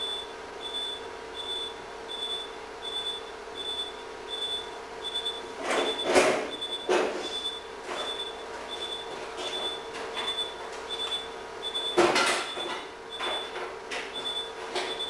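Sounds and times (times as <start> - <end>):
equipment hum: 0.0 - 15.0
patient monitor beeping: 0.0 - 15.0.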